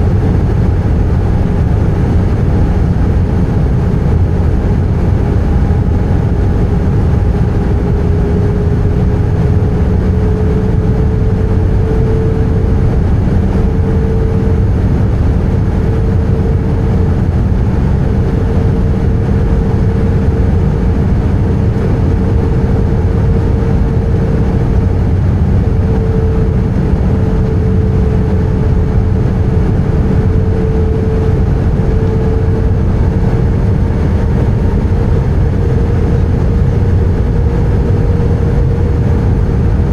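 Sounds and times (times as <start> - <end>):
jet engine roar: 0.0 - 39.9
steady cabin hum: 0.0 - 39.9.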